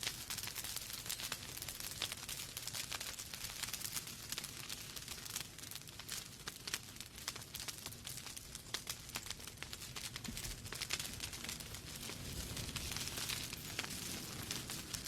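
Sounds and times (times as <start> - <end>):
logs crackling and popping: 0.0 - 15.0
soft steady fire hiss: 0.0 - 15.0.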